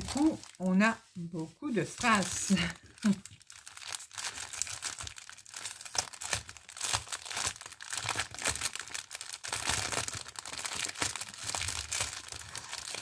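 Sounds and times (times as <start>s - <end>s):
plastic bags crinkling: 0.0s - 1.1s, 1.7s - 13.0s.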